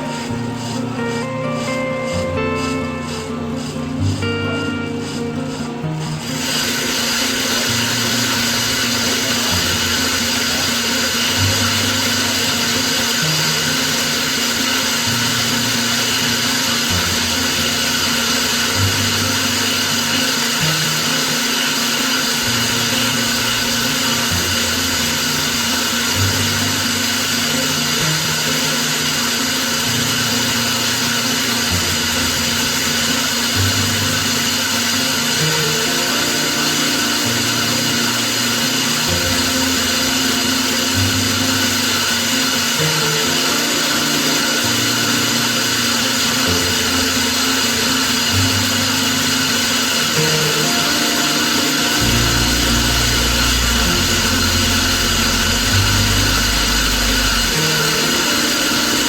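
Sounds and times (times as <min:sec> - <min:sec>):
power tool motor running: 0:00.0 - 0:59.0.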